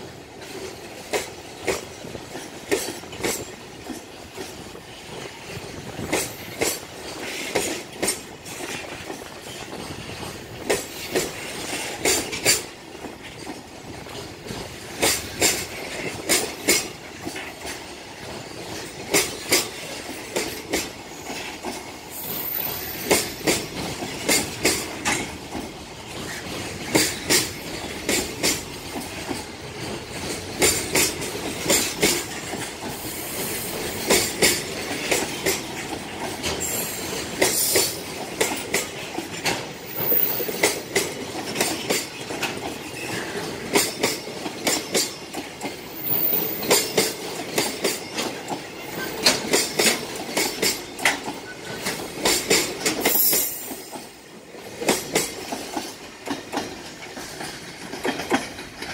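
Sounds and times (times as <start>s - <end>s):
freight train rolling rumble: 0.0s - 58.9s
wheels clicking over rail joints: 0.0s - 58.9s.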